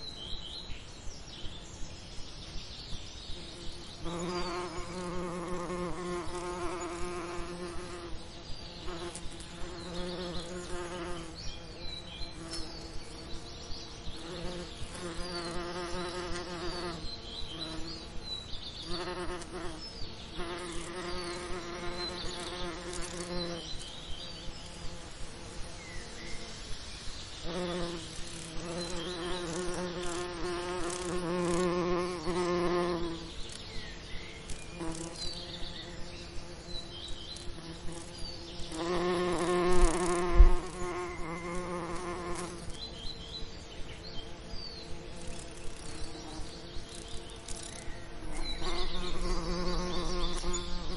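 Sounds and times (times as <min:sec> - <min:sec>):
bees buzzing: 0:03.3 - 0:50.9.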